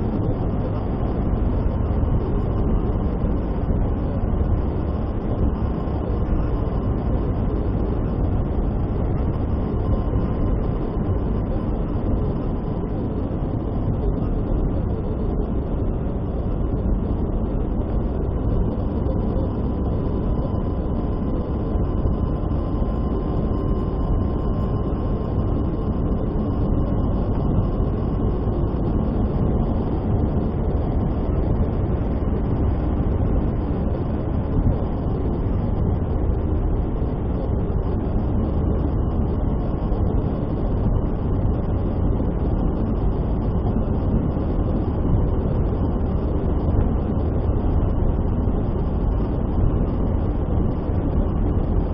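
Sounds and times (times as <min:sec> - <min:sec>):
car road and engine noise: 0:00.0 - 0:51.9
faint steady whine: 0:00.0 - 0:51.9.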